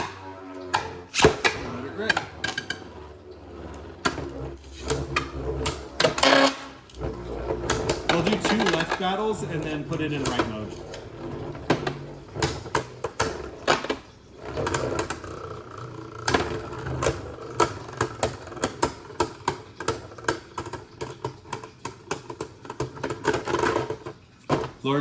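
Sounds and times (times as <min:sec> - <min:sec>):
spinning tops whirring: 0:00.0 - 0:25.0.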